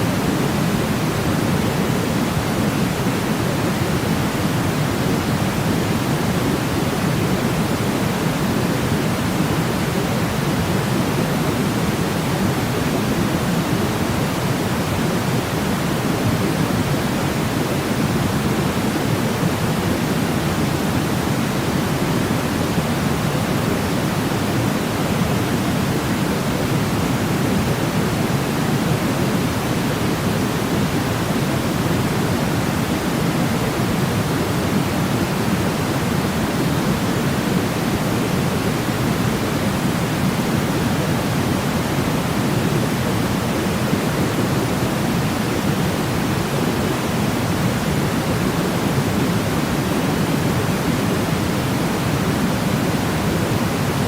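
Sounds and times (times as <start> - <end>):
deep white noise hiss: 0.0 - 54.0.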